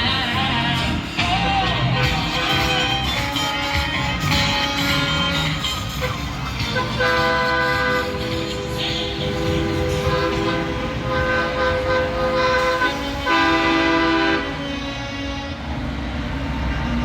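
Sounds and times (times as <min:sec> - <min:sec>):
diesel engines rumbling: 0:00.0 - 0:17.0
truck air horns blasting: 0:02.0 - 0:17.0.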